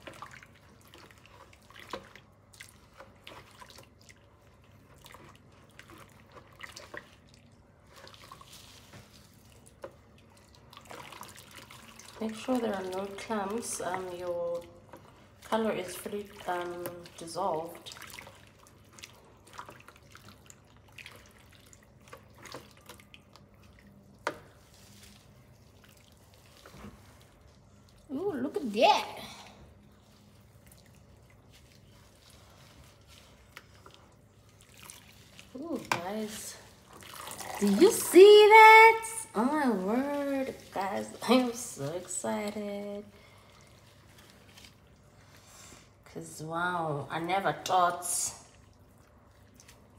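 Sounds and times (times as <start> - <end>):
water splashing in a bowl: 0.0 - 45.4, 47.0 - 49.9
faint room hum: 0.0 - 49.9.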